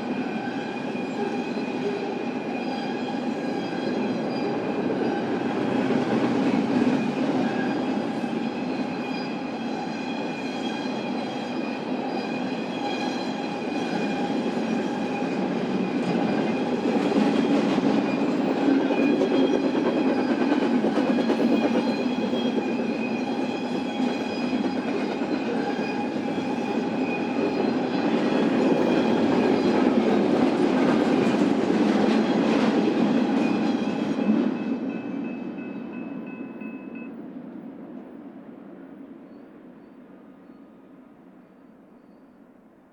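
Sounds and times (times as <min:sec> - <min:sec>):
freight train wheels rumbling and clattering: 0:00.1 - 0:35.8.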